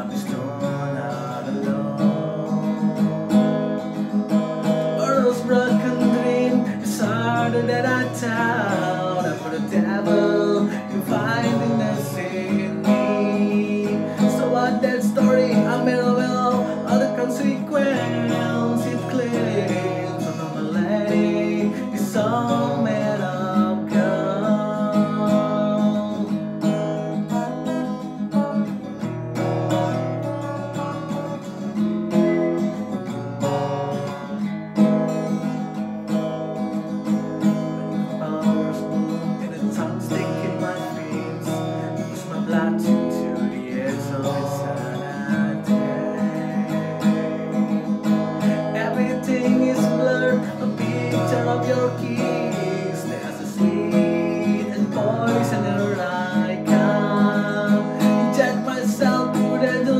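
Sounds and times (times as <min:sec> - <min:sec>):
man singing: 0:00.0 - 0:34.3, 0:36.8 - 0:59.9
acoustic guitar strummed chords: 0:00.0 - 0:59.9.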